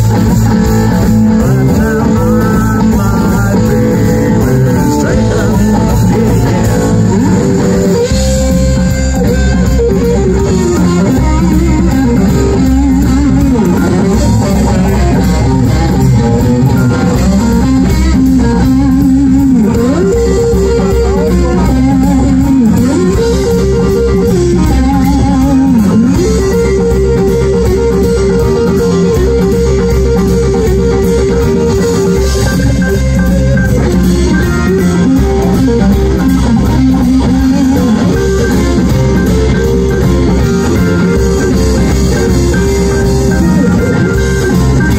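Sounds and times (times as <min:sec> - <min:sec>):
electric guitar riff: 0:00.0 - 0:44.9
live rock band: 0:00.0 - 0:44.9.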